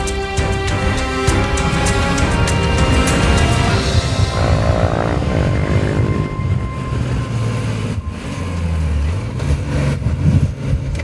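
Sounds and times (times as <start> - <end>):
off-road vehicle engine running hard: 0.4 - 11.0.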